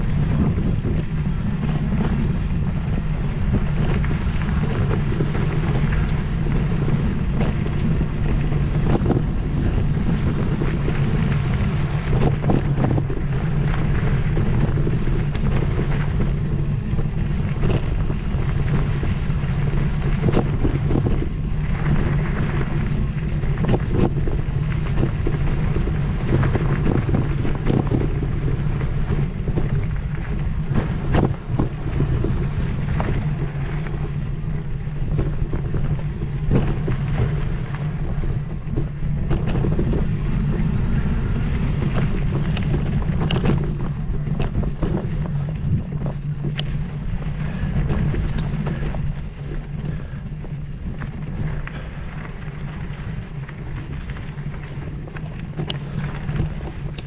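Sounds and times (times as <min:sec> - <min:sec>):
off-road vehicle engine running: 0:00.0 - 0:57.0
wind buffeting microphone: 0:00.0 - 0:57.0.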